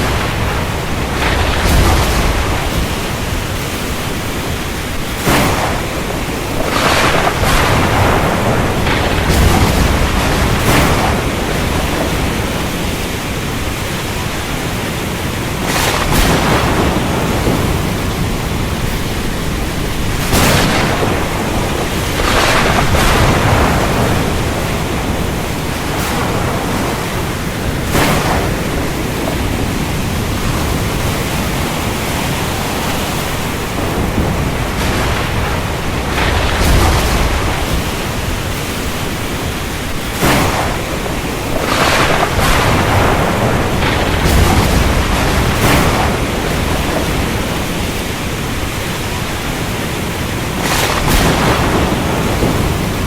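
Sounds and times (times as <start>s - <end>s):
deep thunder rumble: 0.0s - 53.0s
heavy rain: 0.0s - 53.0s
thunder cracks: 0.0s - 53.0s.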